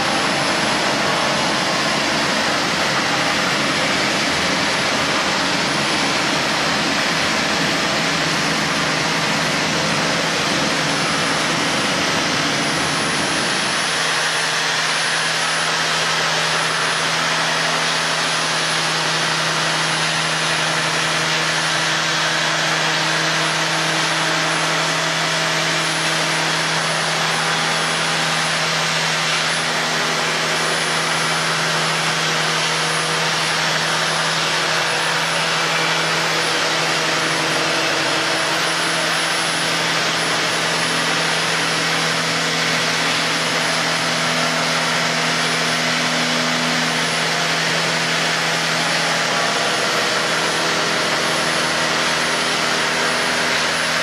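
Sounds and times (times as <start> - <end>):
belt sander motor whine: 0.0 - 54.0.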